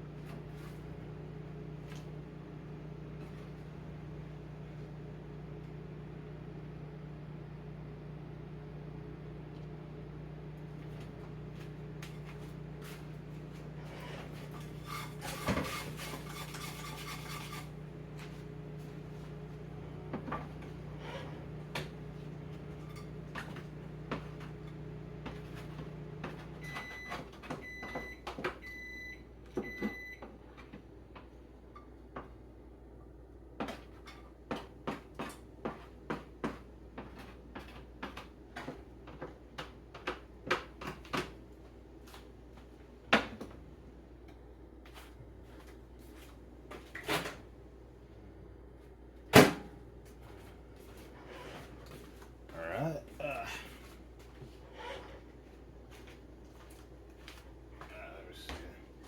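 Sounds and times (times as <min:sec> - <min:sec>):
microwave oven humming: 0:00.0 - 0:59.0.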